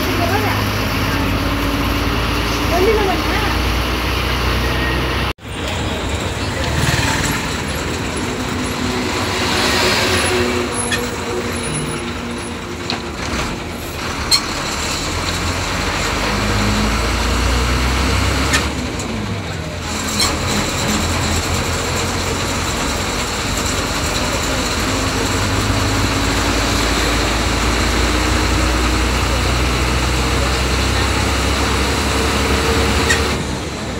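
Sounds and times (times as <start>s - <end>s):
diesel bus engine running: 0.0s - 33.9s
road noise: 0.0s - 33.9s.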